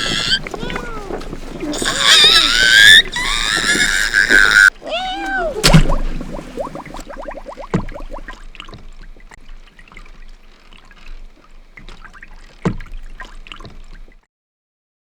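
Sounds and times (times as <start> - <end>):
water bubbling: 0.0 - 14.2
water splashing and trickling: 0.0 - 14.2.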